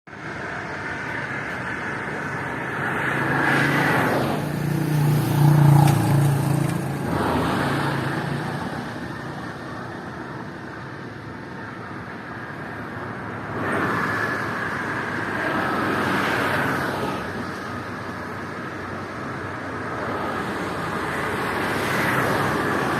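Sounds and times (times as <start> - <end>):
vehicles passing: 0.1 - 22.9.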